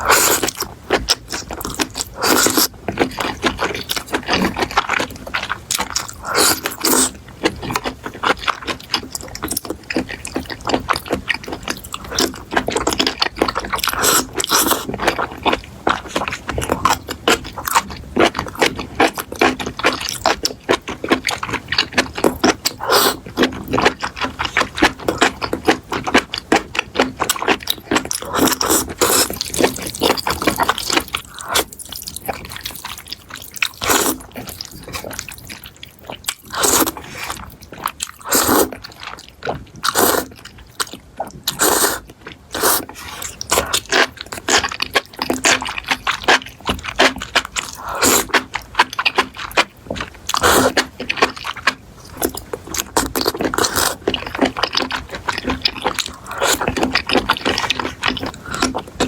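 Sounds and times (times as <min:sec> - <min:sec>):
chewing and mouth smacks: 0:00.0 - 0:59.0.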